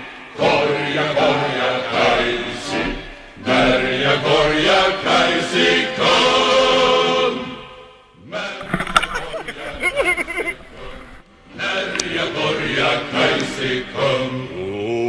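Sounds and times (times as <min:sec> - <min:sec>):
group singing rhythmic chant: 0:00.0 - 0:15.0.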